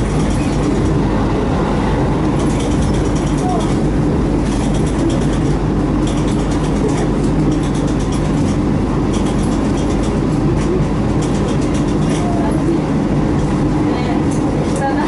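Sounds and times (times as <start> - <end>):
constant hum: 0.0 - 15.0
train wheels rumbling on rail: 0.0 - 15.0.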